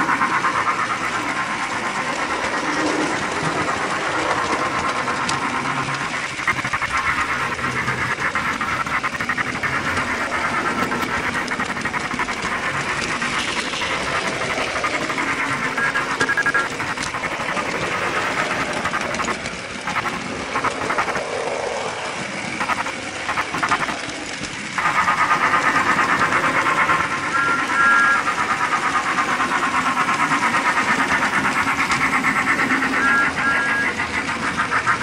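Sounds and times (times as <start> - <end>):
model steam locomotive chuffing: 0.0 - 35.0.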